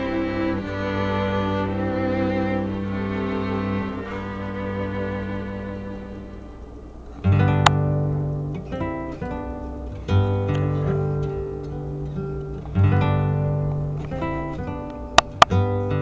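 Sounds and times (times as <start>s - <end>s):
strummed acoustic guitar chords: 0.0s - 16.0s.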